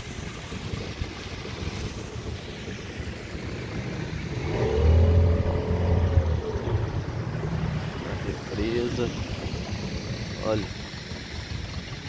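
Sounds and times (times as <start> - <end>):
wind and water rumble: 0.0 - 12.0
boat motor revving: 1.5 - 12.0.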